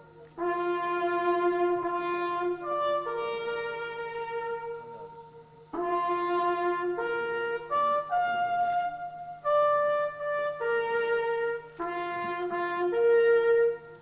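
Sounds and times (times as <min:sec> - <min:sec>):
solo trumpet playing slow call: 0:00.0 - 0:14.0.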